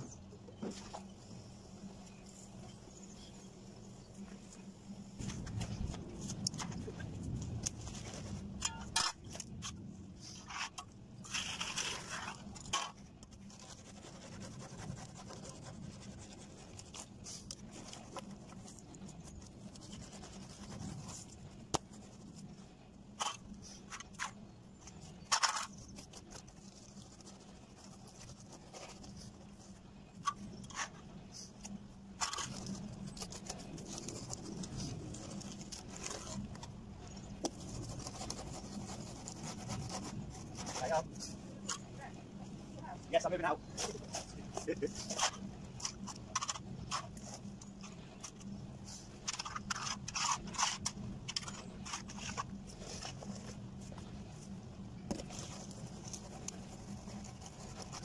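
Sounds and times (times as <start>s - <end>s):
screed board scraping wet concrete: 5.2s - 42.0s, 43.7s - 54.4s.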